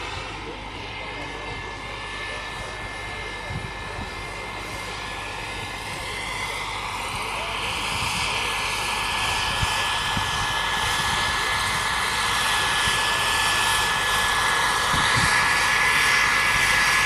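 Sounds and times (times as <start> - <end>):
helicopter engine whine: 0.0 - 17.0
helicopter rotor rush: 0.0 - 17.0.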